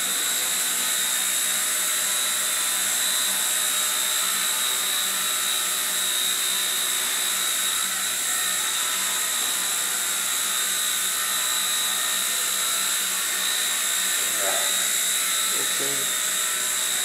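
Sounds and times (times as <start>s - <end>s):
rc helicopter high-pitched whine: 0.0s - 17.0s.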